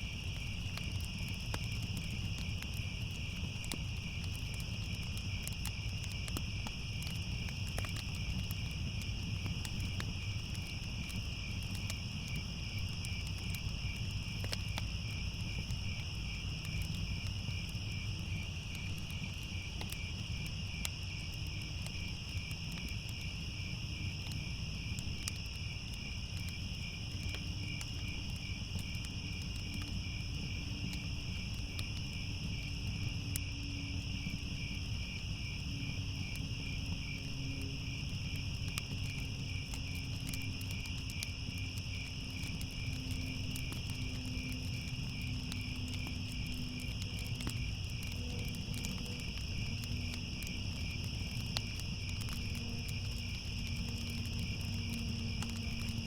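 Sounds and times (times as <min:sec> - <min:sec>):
crickets chirping: 0:00.0 - 0:56.0
fire crackling: 0:00.0 - 0:56.0.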